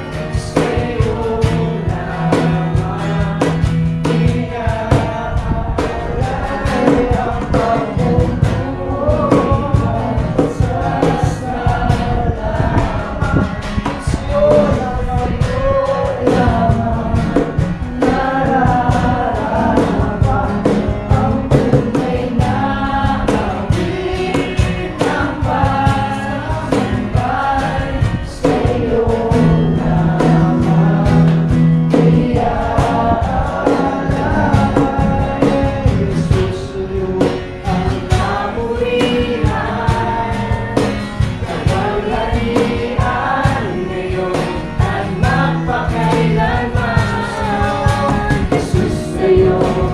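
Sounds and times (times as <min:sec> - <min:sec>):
group of voices singing: 0:00.0 - 0:49.9
instrumental backing: 0:00.0 - 0:49.9.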